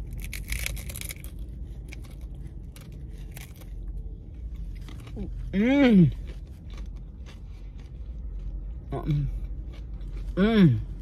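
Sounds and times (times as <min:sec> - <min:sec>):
crunching hard taco shell: 0:00.0 - 0:11.0.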